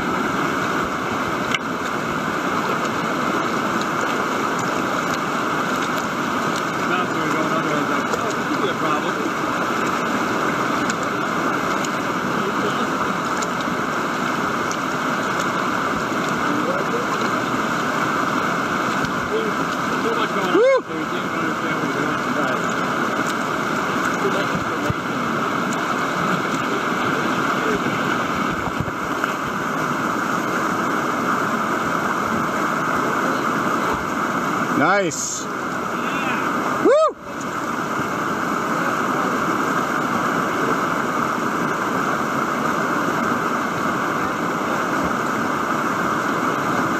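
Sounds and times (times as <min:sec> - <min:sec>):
small water splashes: 0:00.0 - 0:46.9
whitewater rushing: 0:00.0 - 0:46.9.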